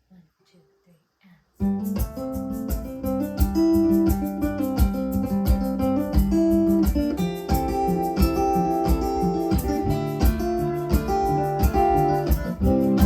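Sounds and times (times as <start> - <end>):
percussion beat: 1.6 - 13.0
strummed and picked guitars: 1.6 - 13.0.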